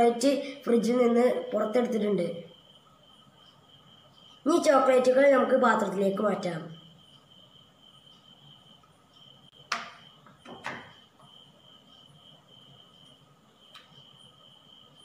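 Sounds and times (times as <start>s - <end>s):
cricket chirring: 0.0s - 15.0s.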